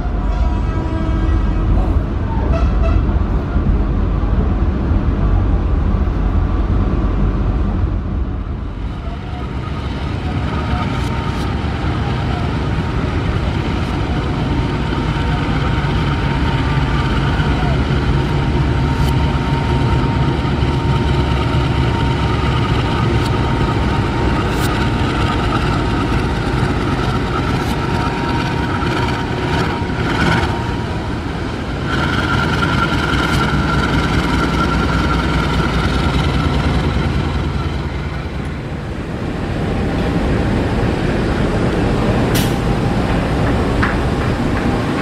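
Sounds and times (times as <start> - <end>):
train engine rumble: 0.0 - 45.0
high steady whine: 3.5 - 45.0.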